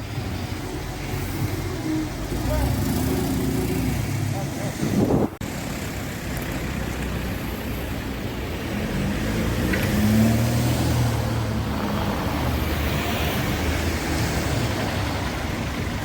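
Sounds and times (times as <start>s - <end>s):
roadside rumble: 0.0s - 16.0s
vehicle engine passing: 1.2s - 16.0s.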